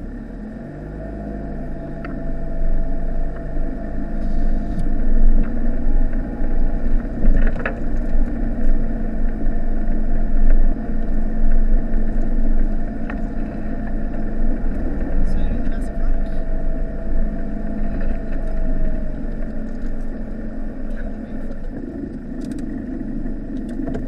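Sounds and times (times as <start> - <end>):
diesel van engine running: 0.0 - 24.0.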